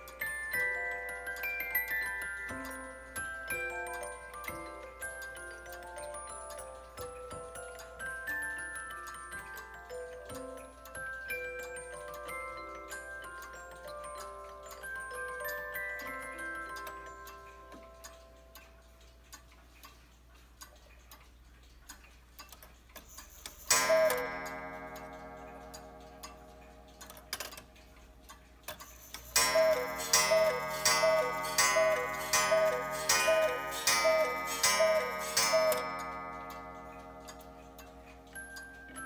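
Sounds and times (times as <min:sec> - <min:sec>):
cuckoo clock call: 0:00.0 - 0:20.3, 0:23.2 - 0:39.0
clock ticking: 0:00.0 - 0:39.0.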